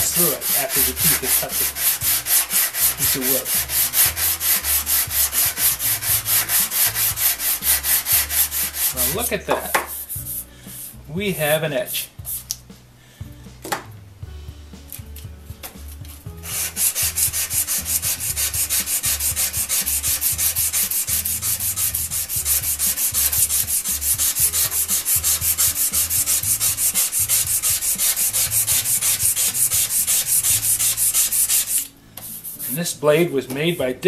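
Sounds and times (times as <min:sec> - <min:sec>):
sandpaper scratching saw blade: 0:00.0 - 0:11.0, 0:16.4 - 0:34.0.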